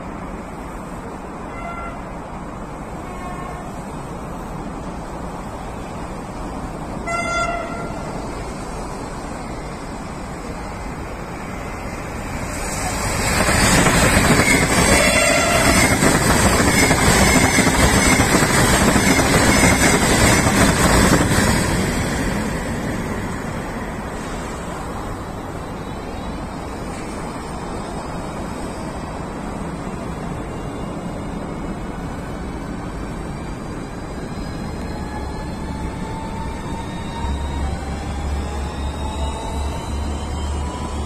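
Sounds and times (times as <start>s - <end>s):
high-speed train rushing past: 0.0s - 41.0s.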